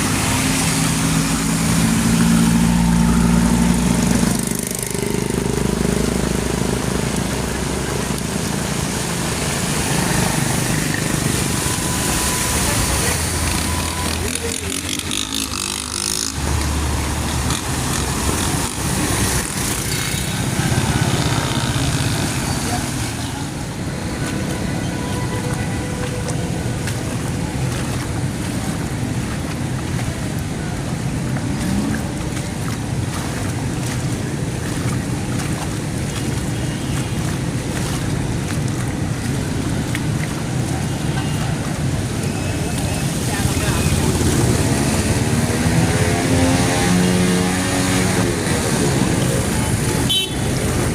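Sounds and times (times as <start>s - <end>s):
car engines: 0.0s - 50.9s
heavy rain falling: 0.0s - 50.9s.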